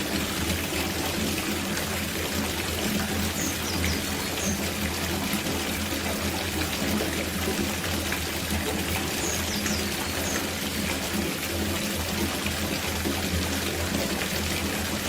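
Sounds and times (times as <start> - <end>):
water pouring into a bathtub: 0.0 - 15.0.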